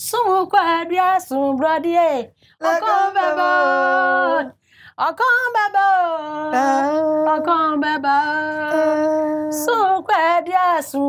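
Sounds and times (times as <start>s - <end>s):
woman singing unaccompanied: 1.4s - 11.0s.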